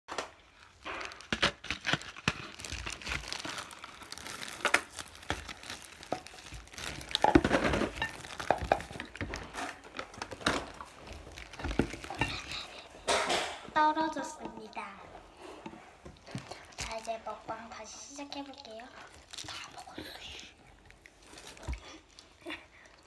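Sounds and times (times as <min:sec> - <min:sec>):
wrapping crinkling: 0:00.1 - 0:23.0.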